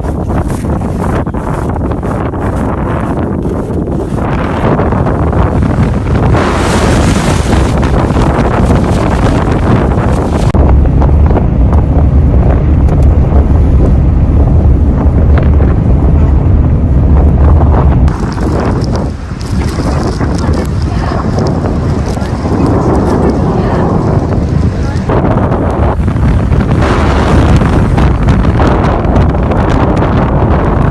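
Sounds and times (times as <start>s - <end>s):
strong wind buffeting microphone: 0.0s - 30.9s.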